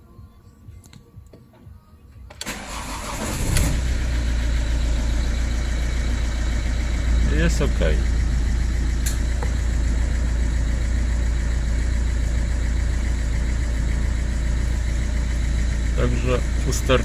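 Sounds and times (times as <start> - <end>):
diesel engine idling: 2.4 - 17.0.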